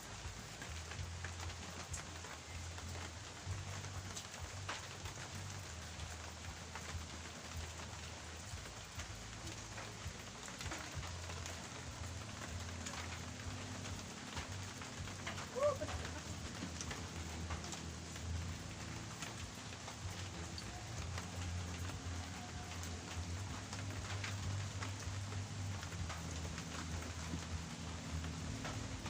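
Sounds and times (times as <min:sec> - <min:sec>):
rain pattering on surfaces: 0:00.0 - 0:29.0
raindrop ticks: 0:00.0 - 0:29.0.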